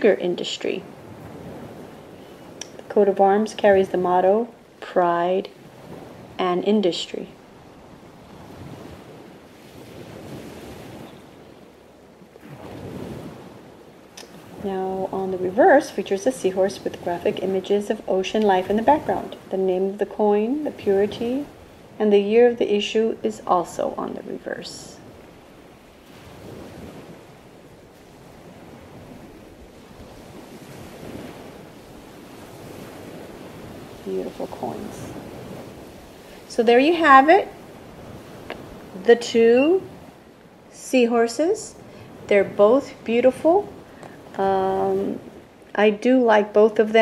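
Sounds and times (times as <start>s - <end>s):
wind rushing across microphone: 0.0s - 47.0s.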